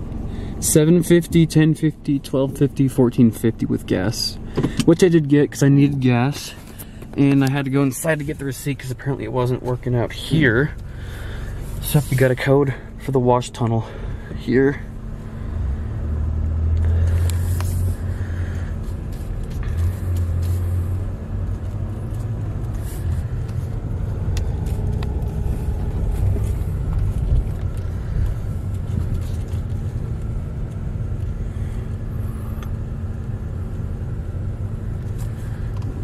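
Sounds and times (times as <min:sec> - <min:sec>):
car engine rumble: 0:00.0 - 0:36.0.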